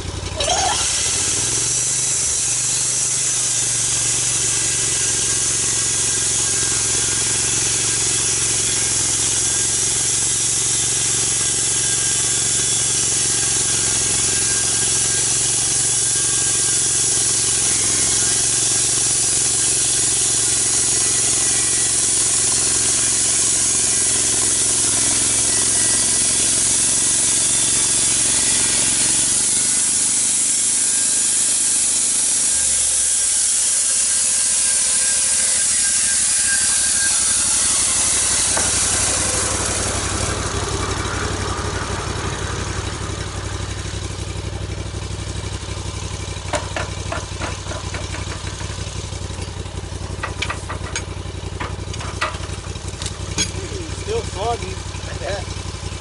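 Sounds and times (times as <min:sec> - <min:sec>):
engine-driven saw cutting log: 0:00.0 - 0:56.0
high hiss from saw cut: 0:00.4 - 0:52.6, 0:53.3 - 0:55.9.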